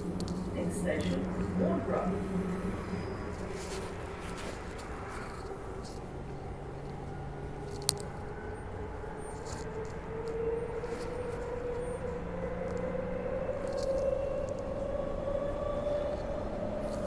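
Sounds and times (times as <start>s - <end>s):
electric train running whine: 0.0s - 17.0s.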